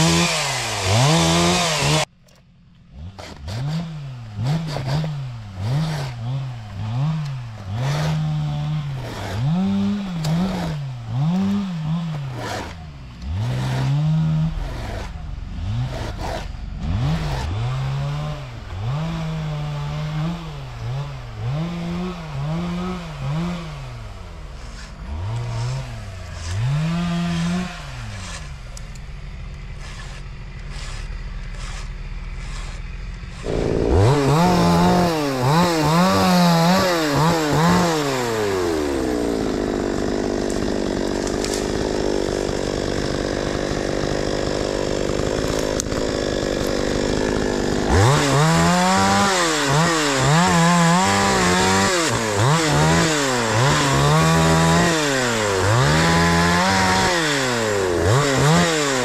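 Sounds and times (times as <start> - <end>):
chainsaw revving: 0.0 - 2.1, 2.8 - 59.0
chainsaw cutting wood: 0.0 - 59.0.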